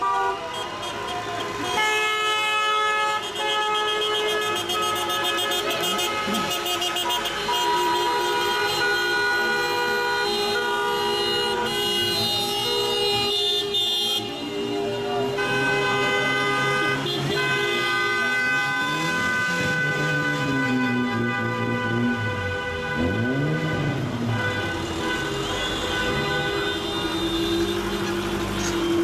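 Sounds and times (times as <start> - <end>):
car horns honking: 0.0 - 29.0.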